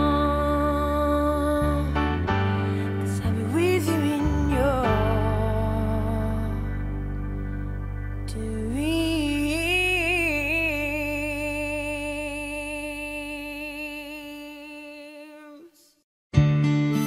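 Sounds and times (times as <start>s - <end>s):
slow background music: 0.0s - 14.0s.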